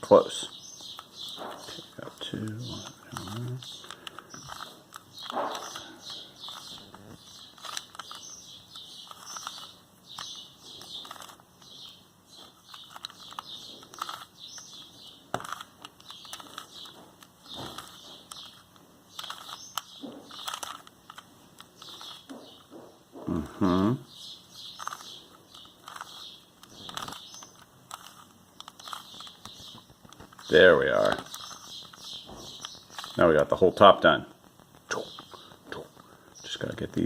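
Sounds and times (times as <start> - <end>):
puzzle cube clicking and scraping: 0.8 - 22.7, 23.3 - 33.5.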